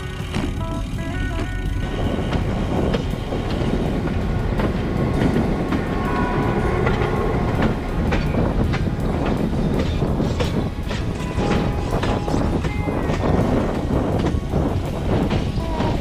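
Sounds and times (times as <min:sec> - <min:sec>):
train rumbling past: 0:00.0 - 0:16.0
wheels clicking over rails: 0:00.0 - 0:16.0.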